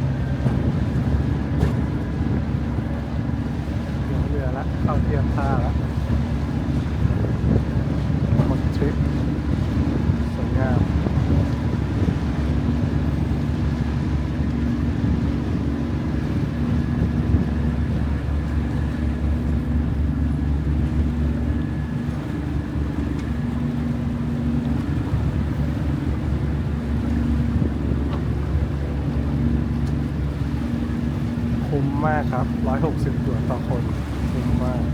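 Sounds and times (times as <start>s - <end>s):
boat engine droning: 0.0s - 34.9s.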